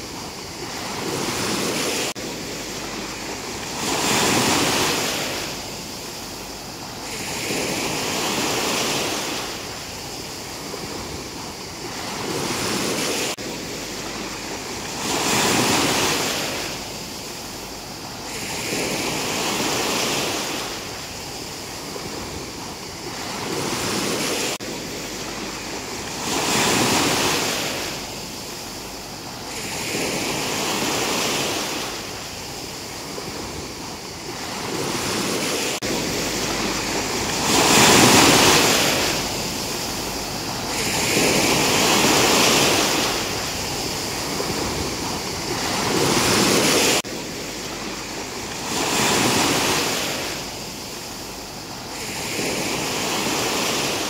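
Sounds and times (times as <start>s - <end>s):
sea waves washing over rocks: 0.0s - 54.0s.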